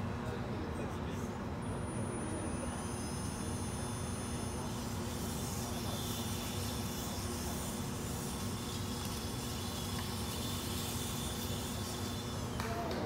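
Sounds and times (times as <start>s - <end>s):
robot motors whining: 1.8s - 12.6s.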